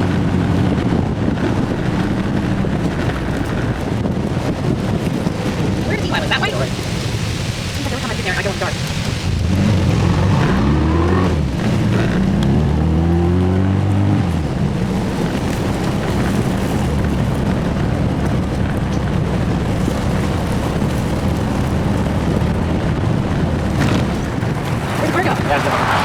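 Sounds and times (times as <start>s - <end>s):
car engine pulling: 0.0s - 26.0s
wind and road noise: 0.0s - 26.0s.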